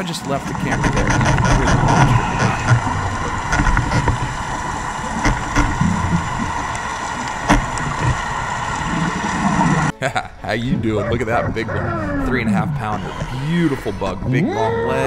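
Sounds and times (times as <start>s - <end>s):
muffled underwater rushing: 0.0s - 15.0s.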